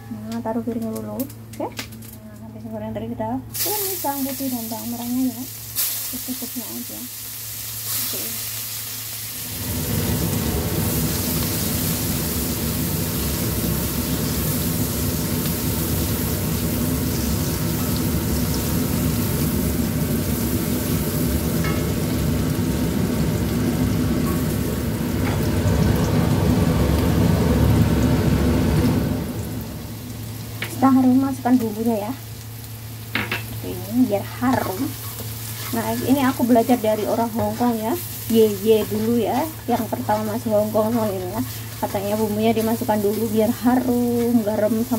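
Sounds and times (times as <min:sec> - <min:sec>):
garlic sizzling in hot oil: 0:03.5 - 0:44.9.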